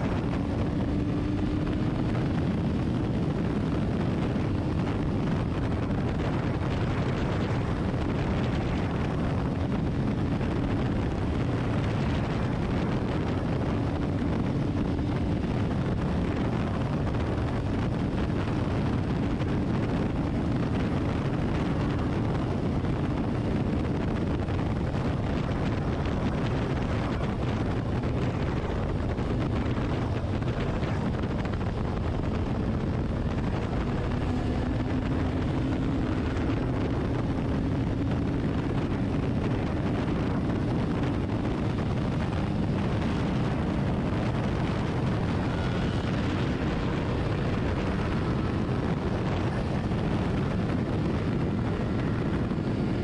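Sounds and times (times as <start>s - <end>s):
motorcycle engine cruising: 0.0s - 53.0s
wind rush on microphone: 0.0s - 53.0s.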